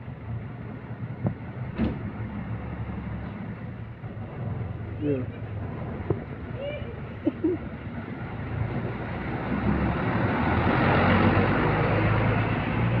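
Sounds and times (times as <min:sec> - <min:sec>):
bus passing: 0:00.0 - 0:13.0.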